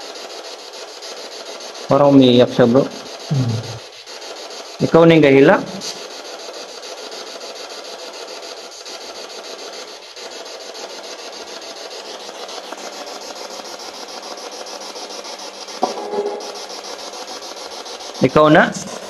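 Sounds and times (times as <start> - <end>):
pulsing radio static hiss: 1.1 - 6.8, 8.6 - 19.0.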